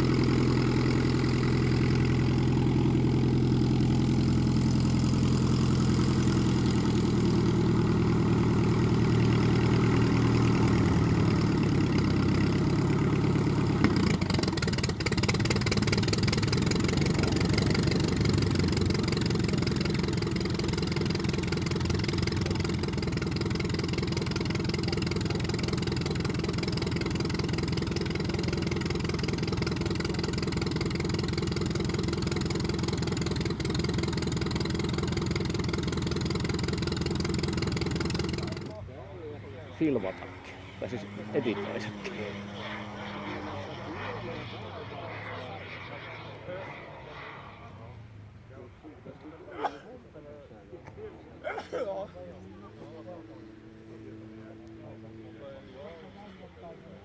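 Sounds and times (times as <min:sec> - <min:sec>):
aircraft piston engine running: 0:00.0 - 0:57.0.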